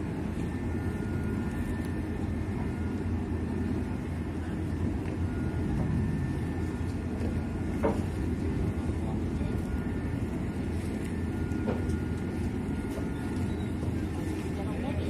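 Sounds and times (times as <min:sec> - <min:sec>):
faint high whine: 0:00.0 - 0:15.0
low engine rumble: 0:00.0 - 0:15.0.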